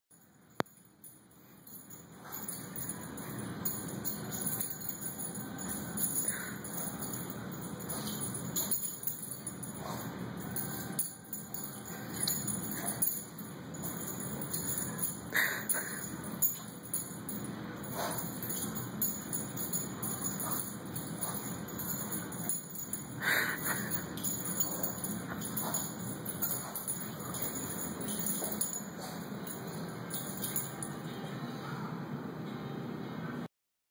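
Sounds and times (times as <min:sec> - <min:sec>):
steady background noise: 0:00.2 - 0:33.5
chime-like ringing tones: 0:01.4 - 0:31.4.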